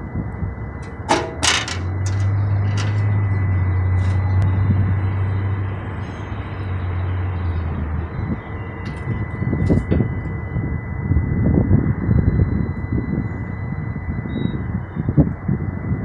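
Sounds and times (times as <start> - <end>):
faint high whine: 0.0 - 16.0
low hum: 0.0 - 16.0.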